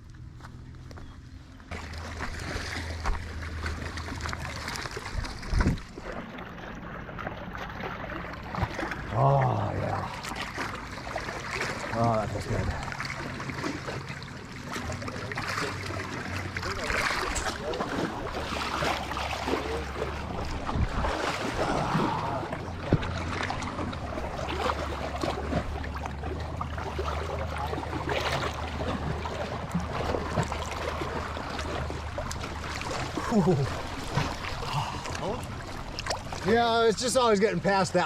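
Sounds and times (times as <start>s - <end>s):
water sloshing and splashing: 0.0s - 38.0s.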